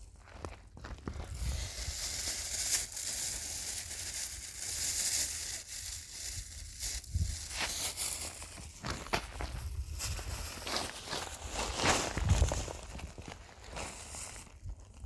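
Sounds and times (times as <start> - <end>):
crunching: 0.1 - 15.0.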